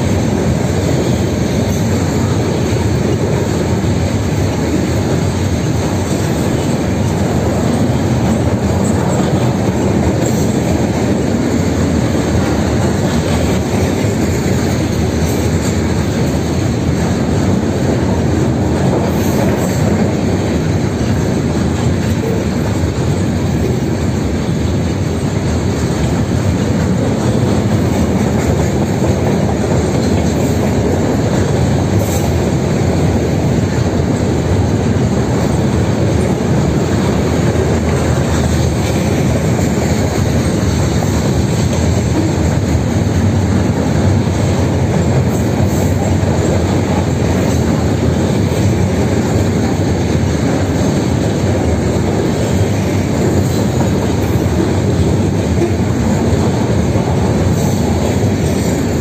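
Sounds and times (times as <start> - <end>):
freight train wheels rumbling on rail: 0.0 - 59.0.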